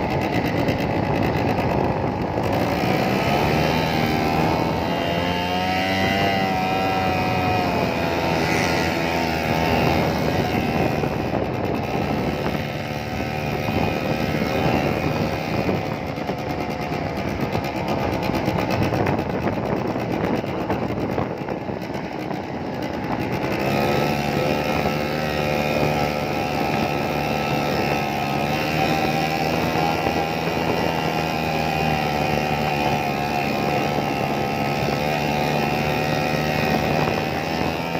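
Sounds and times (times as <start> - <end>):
motorbike engines revving: 0.0 - 37.9.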